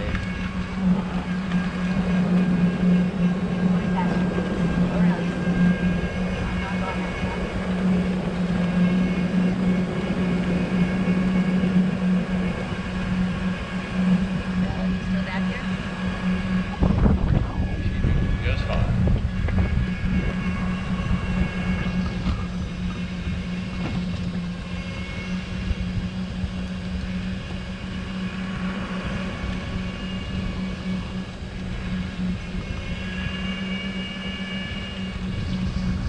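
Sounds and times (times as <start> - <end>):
golf cart hum: 0.0 - 36.0
wind rumble on microphone: 0.0 - 36.0.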